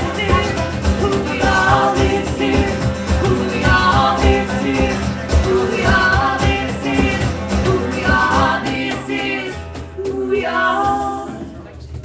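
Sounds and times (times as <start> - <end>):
live rock band playing: 0.0 - 10.2.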